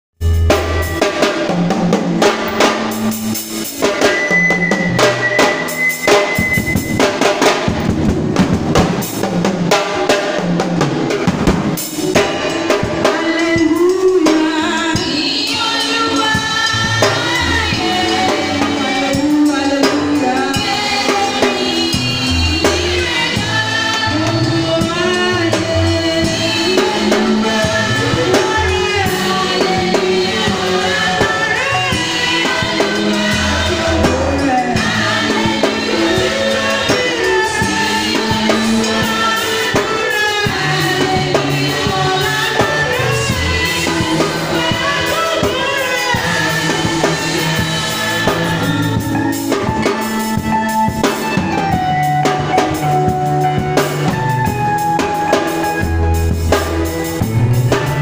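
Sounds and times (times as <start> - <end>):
fast drum kit groove: 0.2 - 58.0
pitched melody: 0.2 - 58.0.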